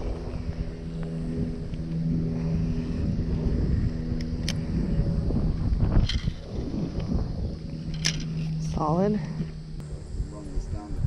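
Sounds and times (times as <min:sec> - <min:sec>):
engine running with even hum: 0:00.0 - 0:11.0.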